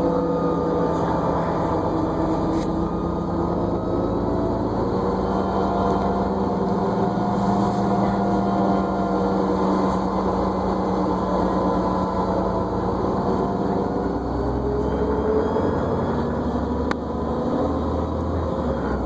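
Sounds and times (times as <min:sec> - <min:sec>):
diesel bus engine rumble: 0:00.0 - 0:19.0
drivetrain whine: 0:00.0 - 0:19.0.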